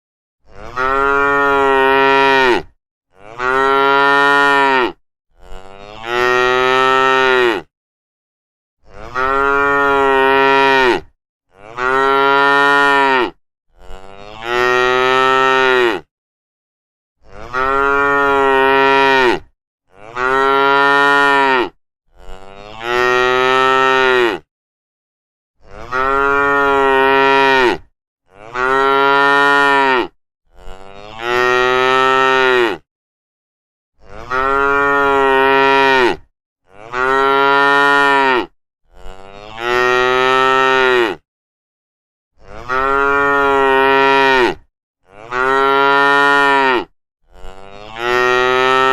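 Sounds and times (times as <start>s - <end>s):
cow mooing: 0.4s - 7.7s, 8.8s - 16.1s, 17.2s - 24.5s, 25.6s - 32.9s, 34.0s - 41.2s, 42.4s - 48.9s.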